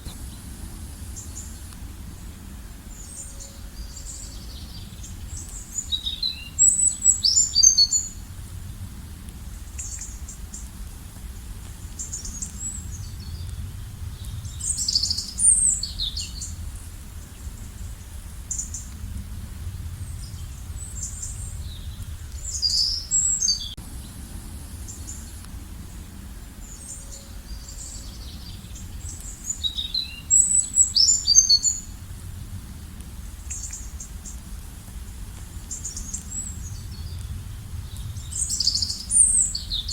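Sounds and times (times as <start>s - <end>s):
songbirds chirping: 0.0s - 39.9s
steady low rumble: 0.0s - 39.9s.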